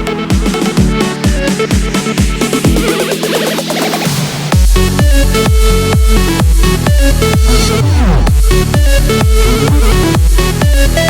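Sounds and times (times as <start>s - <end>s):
kick drum: 0.0s - 3.4s, 4.5s - 11.0s.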